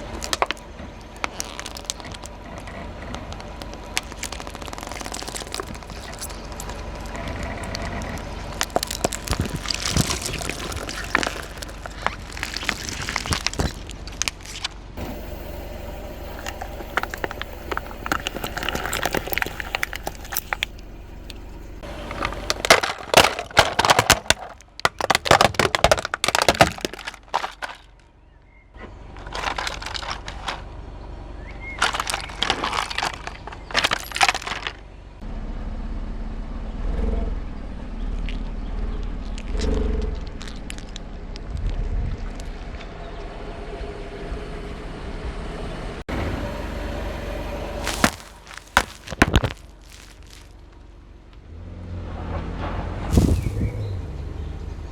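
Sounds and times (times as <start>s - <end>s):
tire crushing brittle objects: 0.0s - 35.2s, 38.1s - 42.6s, 47.3s - 51.7s, 52.3s - 54.0s.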